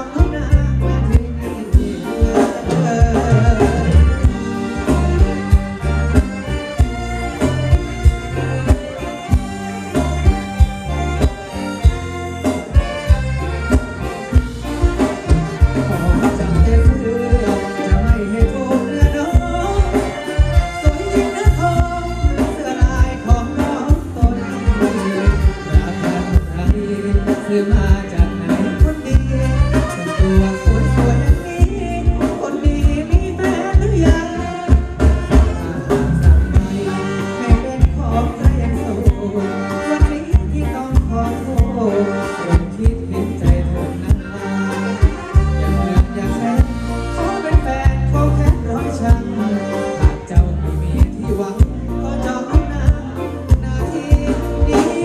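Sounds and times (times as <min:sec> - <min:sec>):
bass guitar: 0:00.0 - 0:55.0
drums: 0:00.0 - 0:55.0
electric guitar: 0:00.0 - 0:55.0
person singing: 0:00.0 - 0:55.0.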